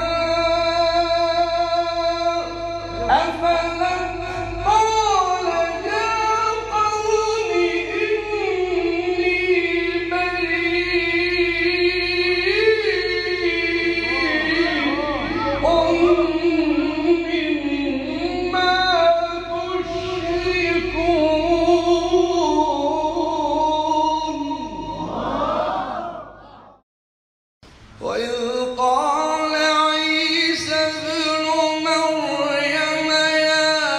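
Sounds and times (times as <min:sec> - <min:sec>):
man chanting melodically: 0:00.0 - 0:25.6, 0:28.0 - 0:33.9.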